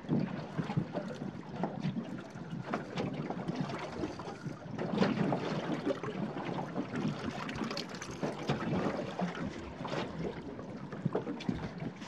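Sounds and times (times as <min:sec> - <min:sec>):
waves slapping against boat hull: 0:00.0 - 0:12.0.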